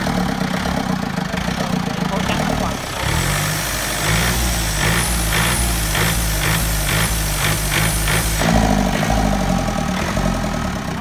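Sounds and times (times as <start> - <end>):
diesel engine with rhythmic knock: 0.0 - 11.0.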